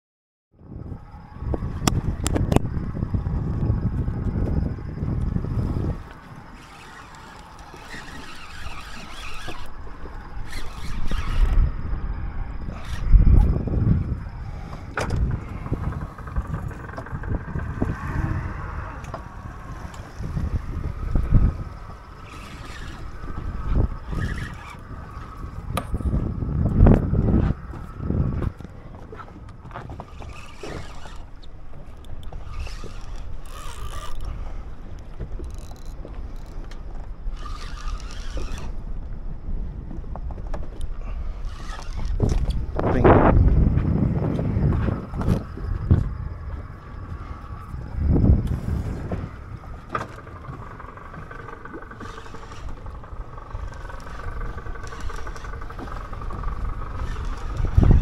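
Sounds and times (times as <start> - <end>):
motorboat engine rumble: 0.6 - 58.0.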